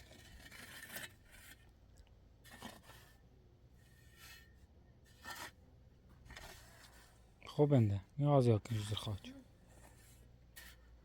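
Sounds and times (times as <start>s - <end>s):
faint rustling and scraping: 0.0s - 11.0s.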